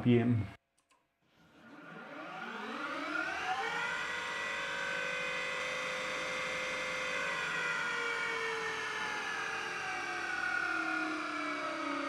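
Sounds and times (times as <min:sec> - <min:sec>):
lathe motor whining: 0:01.4 - 0:12.0.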